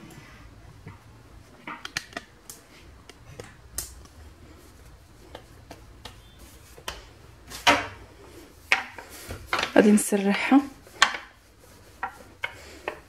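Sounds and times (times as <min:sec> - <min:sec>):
hands patting dough: 0:00.7 - 0:13.0.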